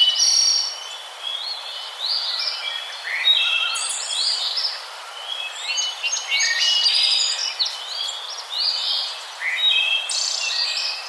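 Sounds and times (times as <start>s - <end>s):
background hiss: 0.0s - 11.0s
small birds chirping: 0.0s - 11.0s.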